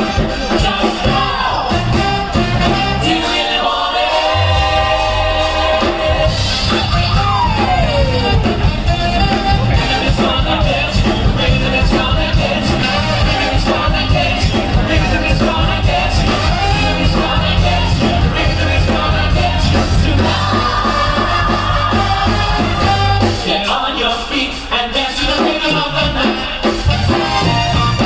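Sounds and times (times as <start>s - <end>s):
upbeat show music with singing: 0.0s - 28.0s.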